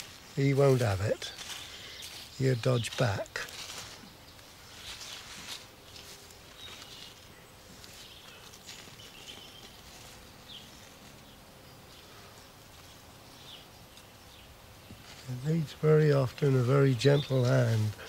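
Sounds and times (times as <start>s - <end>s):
soil pattering and rustling: 0.0s - 18.0s.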